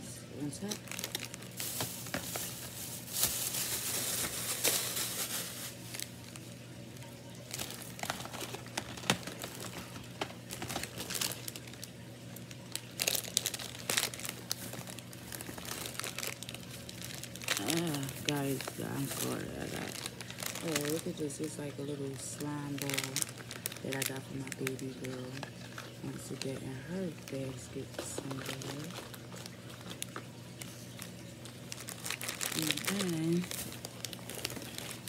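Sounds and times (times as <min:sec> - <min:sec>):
plastic bags crinkling: 0:00.4 - 0:35.0.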